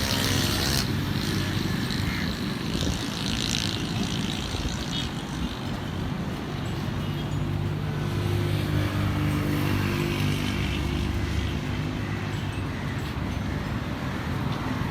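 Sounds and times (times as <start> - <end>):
vehicle engines humming: 0.0 - 14.9.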